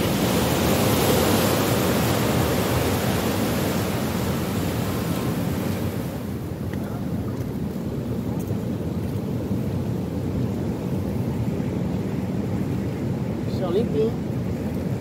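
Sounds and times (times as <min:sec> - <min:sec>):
sea wash: 0:00.0 - 0:15.0.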